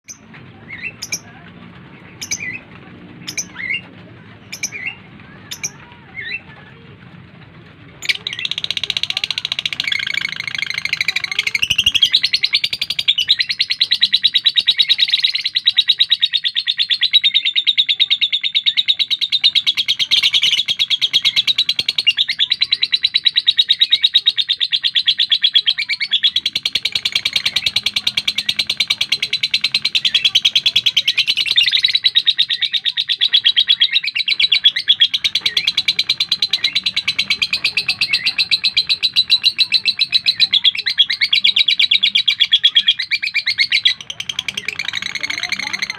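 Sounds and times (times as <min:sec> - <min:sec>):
bird chattering: 0:00.0 - 0:45.9.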